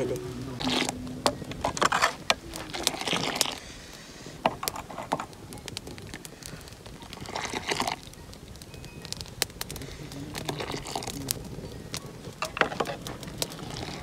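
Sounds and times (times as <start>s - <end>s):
small clicks and crackles: 0.0s - 14.0s.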